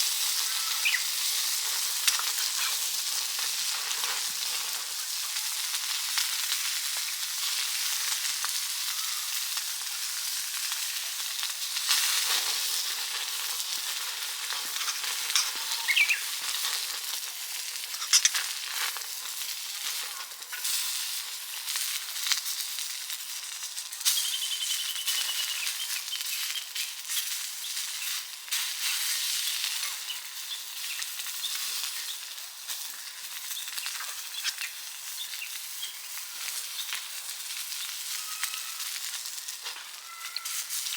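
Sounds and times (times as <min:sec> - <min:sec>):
meat sizzling on a grill: 0:00.0 - 0:40.9
wood fire crackling: 0:00.0 - 0:40.9.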